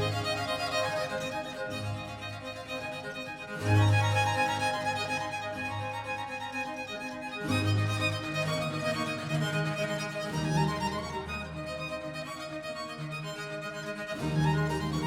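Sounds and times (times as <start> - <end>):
violin melody: 0.0 - 15.0.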